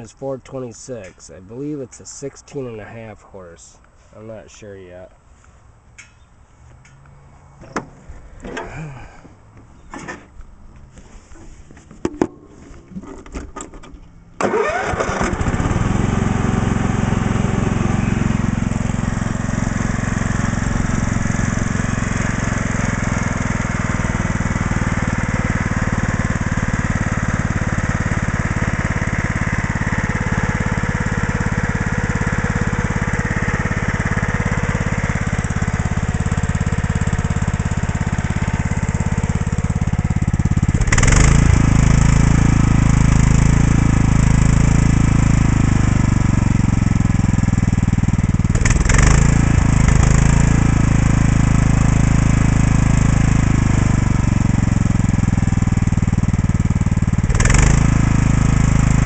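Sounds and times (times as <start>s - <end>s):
lawn tractor engine starting: 7.6s - 10.4s, 12.4s - 59.0s.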